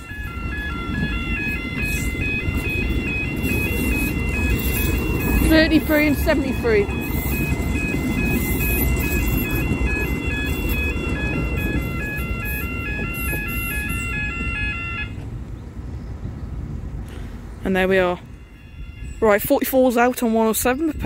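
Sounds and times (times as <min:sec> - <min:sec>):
level crossing warning alarm: 0:00.0 - 0:15.3, 0:17.7 - 0:21.0
train rumbling across crossing: 0:00.0 - 0:21.0.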